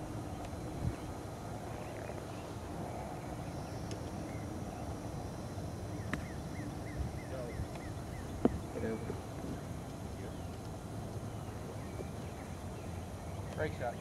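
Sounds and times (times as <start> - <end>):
bird chirping: 0.0 - 14.0
low outdoor rumble: 0.0 - 14.0.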